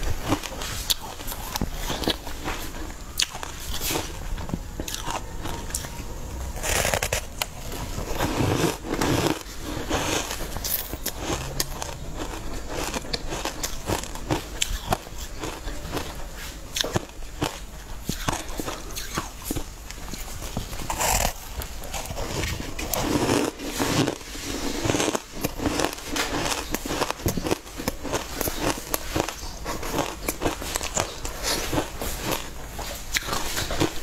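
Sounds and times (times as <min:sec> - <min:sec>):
biting into cake: 0:00.2 - 0:34.0.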